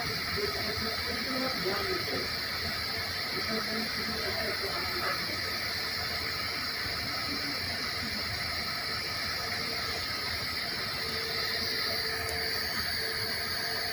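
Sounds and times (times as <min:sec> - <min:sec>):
compressed air hissing: 0:00.0 - 0:13.9.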